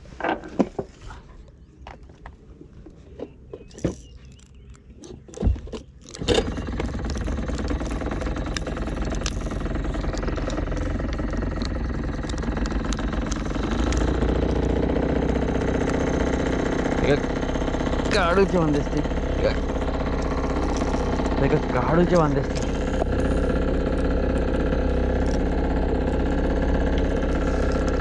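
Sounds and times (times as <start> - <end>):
boat engine running: 3.1 - 28.0.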